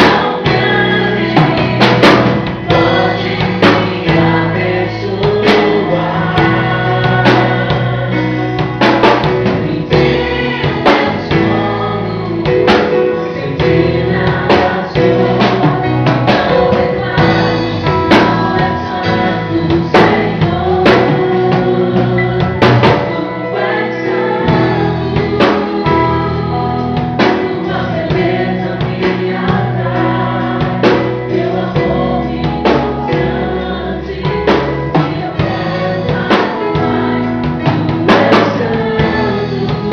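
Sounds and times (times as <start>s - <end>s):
drum kit beat: 0.0s - 39.9s
gospel singing: 0.0s - 39.9s
sustained bass line: 0.0s - 39.9s.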